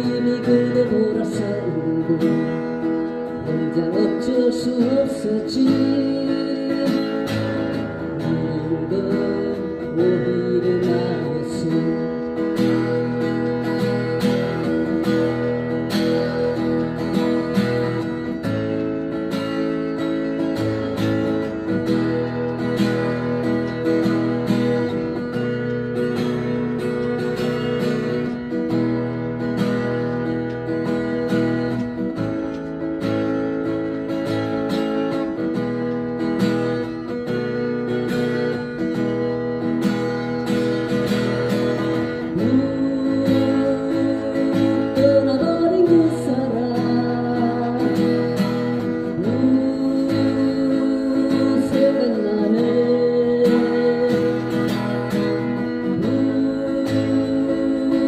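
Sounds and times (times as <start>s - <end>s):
acoustic guitar strumming chords: 0.0s - 58.0s.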